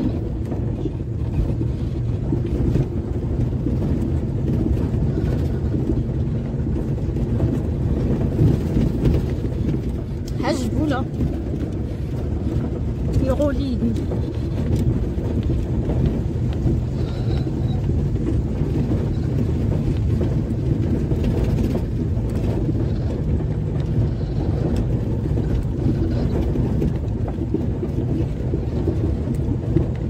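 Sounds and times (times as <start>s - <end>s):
car engine and tyre rumble: 0.0s - 30.0s
small knocks and rattles: 0.0s - 30.0s.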